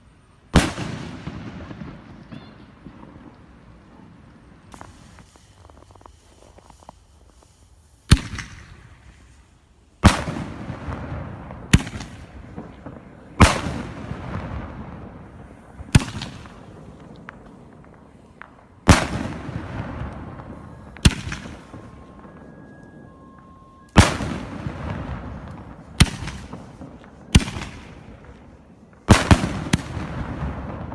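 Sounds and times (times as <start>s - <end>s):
firework bangs with echo: 0.5s - 9.4s, 10.0s - 30.9s.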